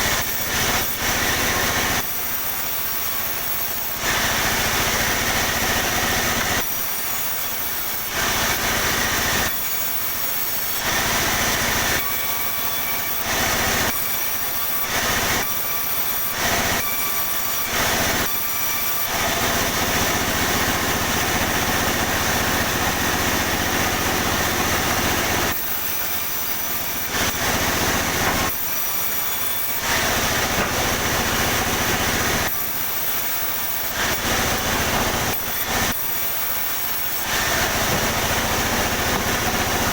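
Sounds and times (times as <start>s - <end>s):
sawmill blade whining: 0.0s - 39.9s
sawmill machine humming: 0.0s - 39.9s.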